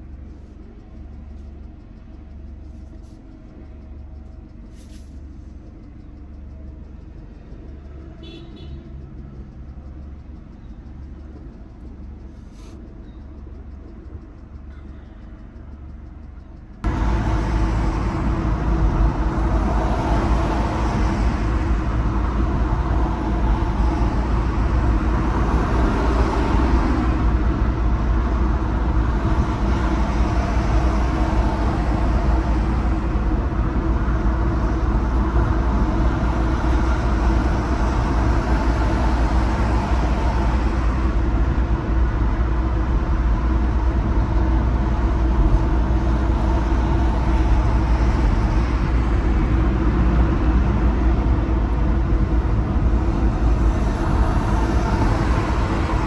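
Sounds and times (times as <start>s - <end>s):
car road noise: 0.0s - 56.0s.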